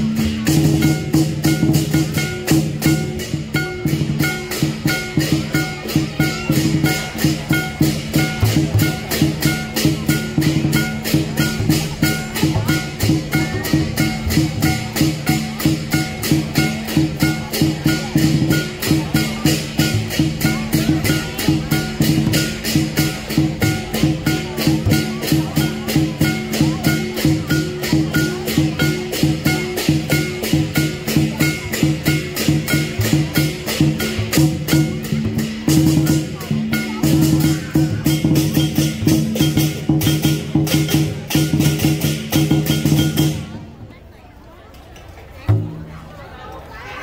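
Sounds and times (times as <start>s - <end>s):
cymbals clashing: 0.0s - 43.6s
big drum beating: 0.0s - 43.9s, 45.5s - 46.2s
gong: 0.1s - 43.4s.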